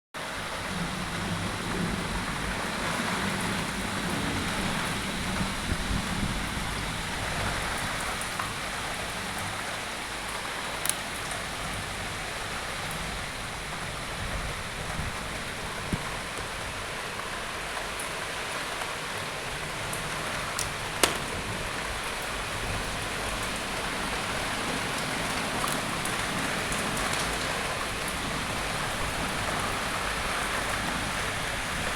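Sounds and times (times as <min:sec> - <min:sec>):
steady rain: 0:00.2 - 0:31.9.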